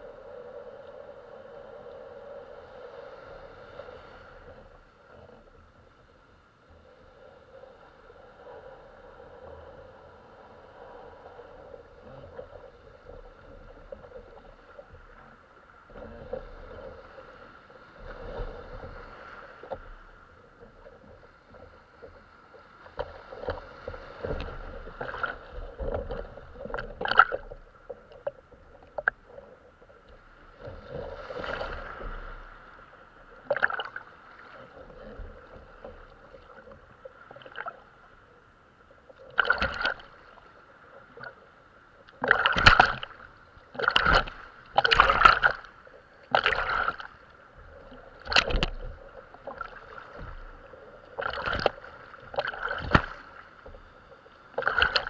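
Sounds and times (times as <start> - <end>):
water gurgling around kayak hull: 0.0 - 55.0.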